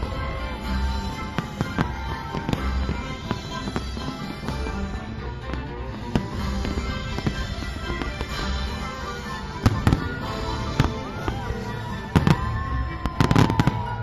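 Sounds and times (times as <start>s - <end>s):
fireworks bursting with sharp bangs: 0.0s - 14.0s
music playing: 0.0s - 14.0s.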